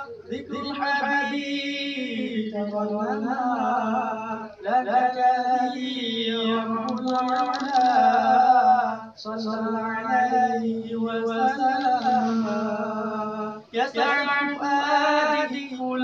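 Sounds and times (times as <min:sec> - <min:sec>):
man chanting a cappella: 0:00.0 - 0:16.0.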